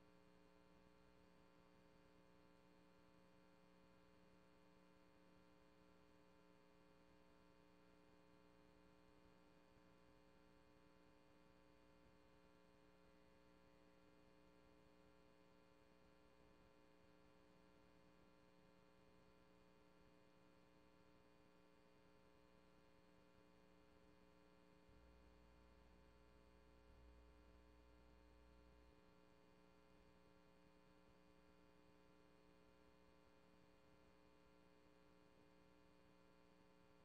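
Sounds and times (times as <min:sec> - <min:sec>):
faint electrical hum: 0:06.7 - 0:37.0.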